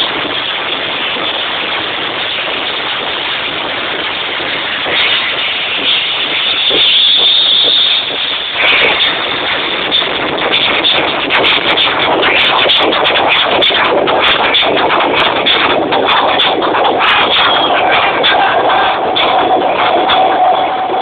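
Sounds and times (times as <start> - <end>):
distorted electronic dance music: 0.0 - 21.0.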